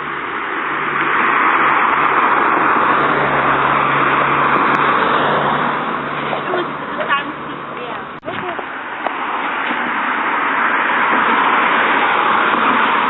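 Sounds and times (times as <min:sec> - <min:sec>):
car driving past: 0:00.0 - 0:13.0.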